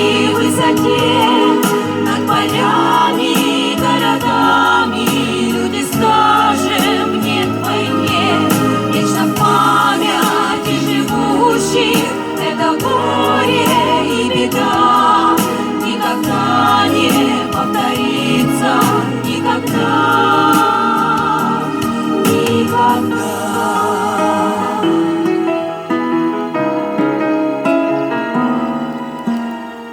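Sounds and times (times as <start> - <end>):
vocal ensemble singing in harmony: 0.0 - 27.5.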